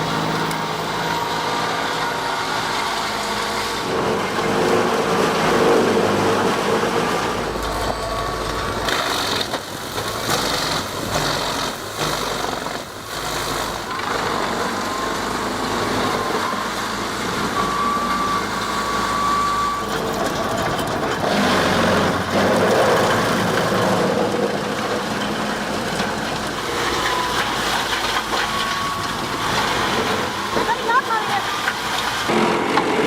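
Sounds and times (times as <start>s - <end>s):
heavy machinery running: 0.0s - 33.0s.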